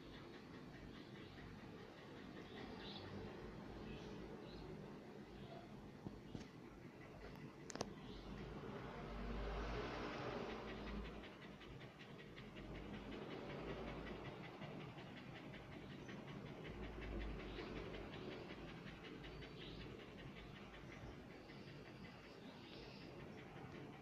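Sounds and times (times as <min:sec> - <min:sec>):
dog panting rapidly: 0:00.0 - 0:24.0.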